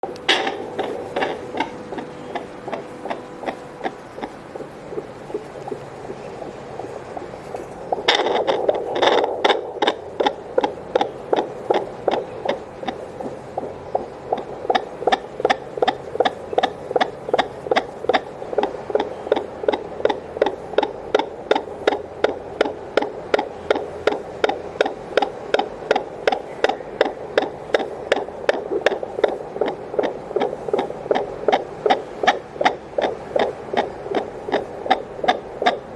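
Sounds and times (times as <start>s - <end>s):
fetal heartbeat whooshing: 0.0s - 35.9s.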